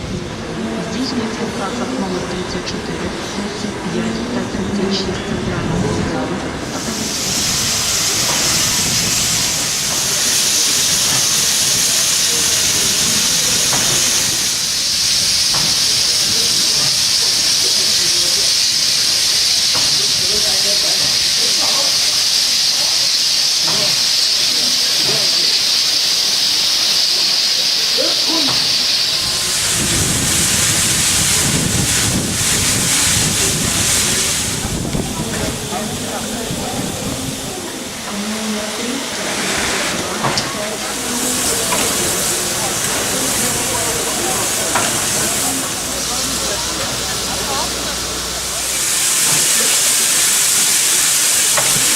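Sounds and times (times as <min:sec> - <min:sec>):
steam locomotive hissing steam: 0:00.0 - 0:51.9.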